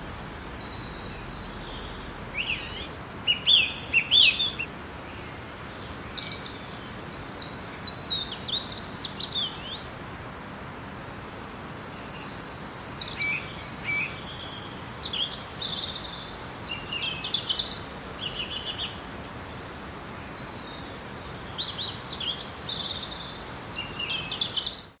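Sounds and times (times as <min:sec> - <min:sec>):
soft background hiss: 0:00.0 - 0:25.0
songbirds chirping and trilling: 0:00.0 - 0:25.0.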